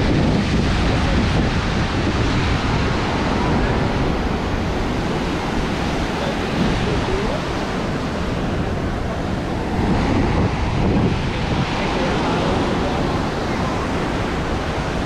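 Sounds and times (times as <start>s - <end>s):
surf washing up beach: 0.0s - 15.0s
wind on microphone: 0.0s - 15.0s.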